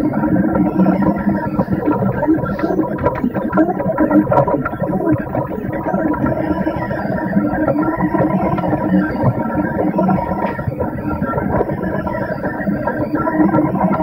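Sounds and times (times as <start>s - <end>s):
faint clicks: 0.1s - 14.0s.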